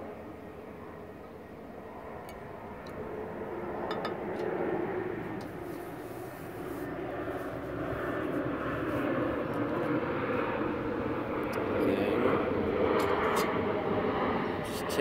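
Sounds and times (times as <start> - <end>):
aircraft droning overhead: 0.0 - 15.0.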